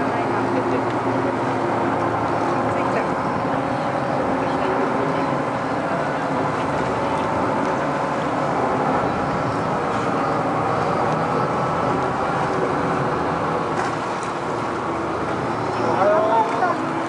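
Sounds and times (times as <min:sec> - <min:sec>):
ferry engine running: 0:00.0 - 0:17.0.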